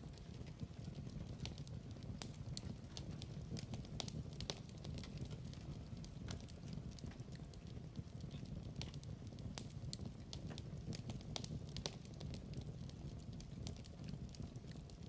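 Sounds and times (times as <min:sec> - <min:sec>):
log fire crackling and popping: 0:00.0 - 0:15.0
low rumble of flames: 0:00.0 - 0:15.0.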